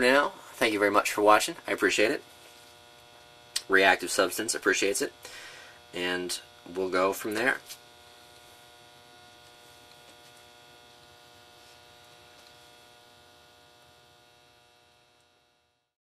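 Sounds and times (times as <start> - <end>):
electrical hum: 0.0 - 15.9.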